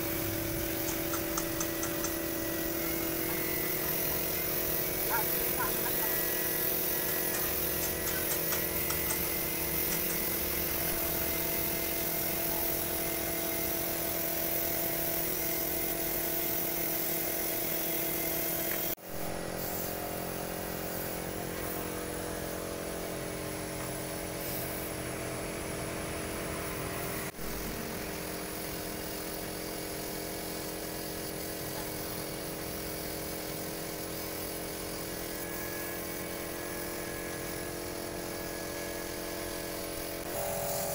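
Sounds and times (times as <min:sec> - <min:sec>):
air compressor humming: 0:00.0 - 0:40.9
paint spray gun hissing: 0:00.0 - 0:40.9.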